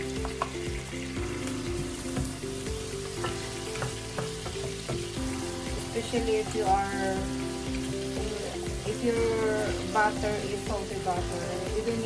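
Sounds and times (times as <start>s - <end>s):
chicken sizzling in a pan: 0.0s - 12.0s
soft background music: 0.0s - 12.0s.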